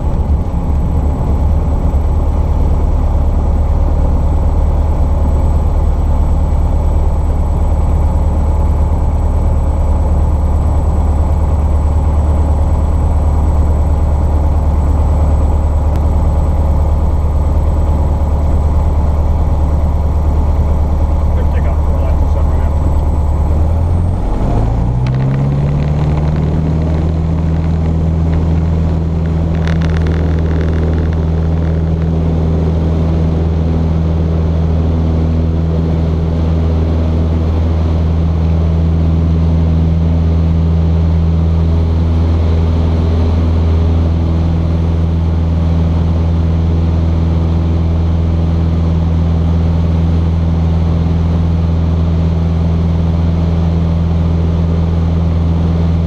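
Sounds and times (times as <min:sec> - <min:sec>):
airplane engine drone: 0:00.0 - 0:56.0.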